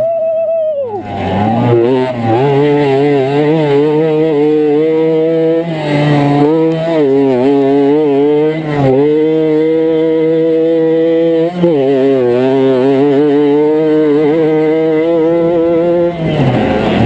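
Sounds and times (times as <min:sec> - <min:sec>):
moped engine revving: 0:00.8 - 0:17.0.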